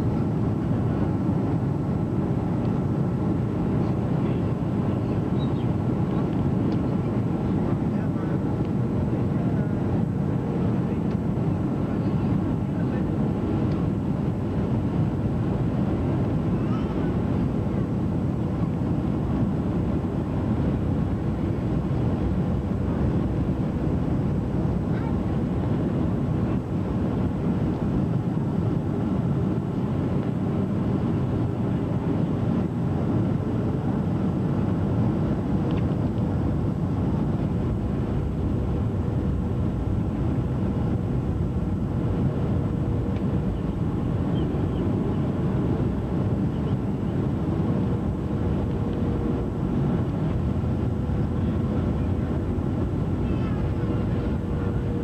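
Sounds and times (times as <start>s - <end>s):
faint steady whine: 0.0s - 55.0s
jet engine and airflow drone: 0.0s - 55.0s.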